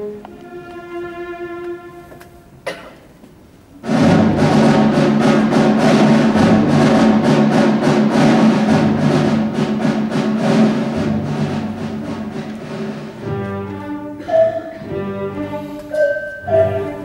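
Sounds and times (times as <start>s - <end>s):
orchestral ballet music: 0.0s - 2.6s, 3.8s - 17.0s.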